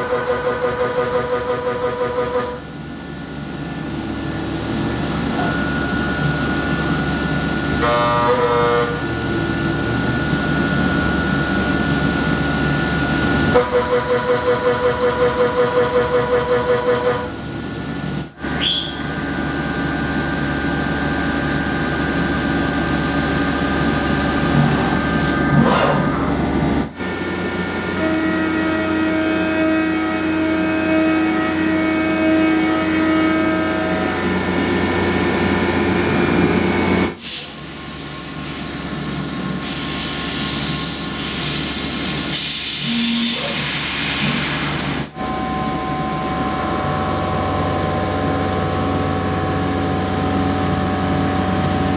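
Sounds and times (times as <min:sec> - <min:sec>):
milling machine spindle whine: 0:00.1 - 0:37.2, 0:44.2 - 0:51.9.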